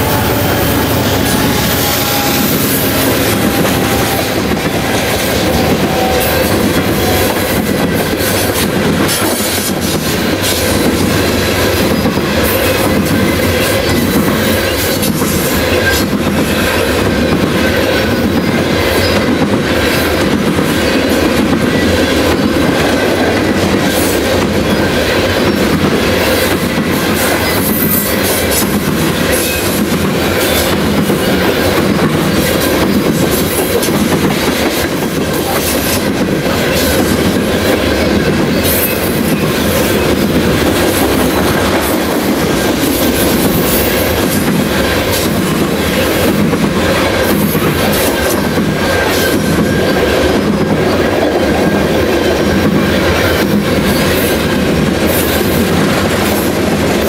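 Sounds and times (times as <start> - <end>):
train wheels rumbling: 0.0 - 57.0
wheels clacking over rail joints: 0.0 - 57.0.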